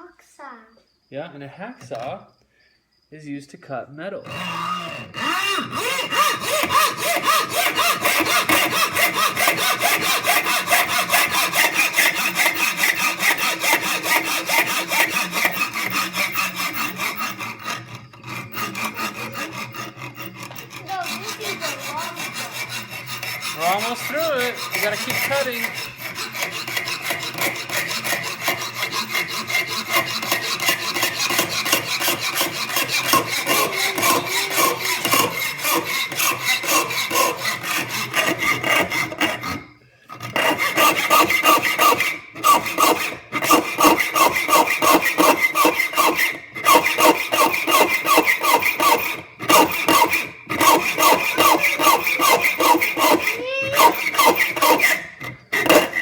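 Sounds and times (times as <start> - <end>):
hacksaw cutting metal: 4.1 - 56.0.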